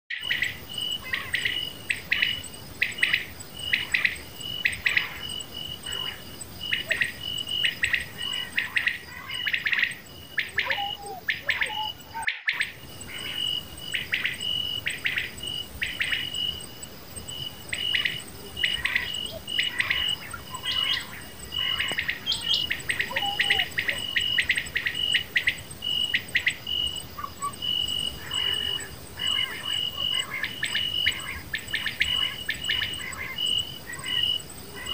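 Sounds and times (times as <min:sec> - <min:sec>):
high insect trill: 0:00.1 - 0:34.9
quail calling: 0:00.2 - 0:16.4, 0:17.9 - 0:25.6, 0:27.2 - 0:34.9.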